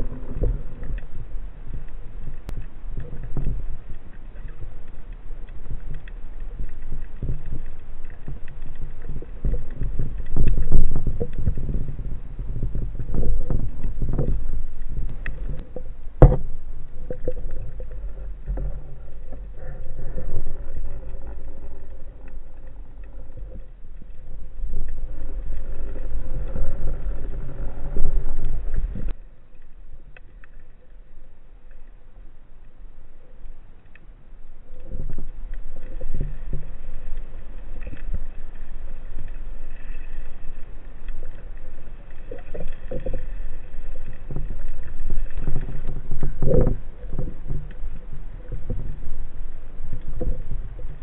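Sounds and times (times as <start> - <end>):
muffled underwater rumble and sloshing: 0.0 - 51.0.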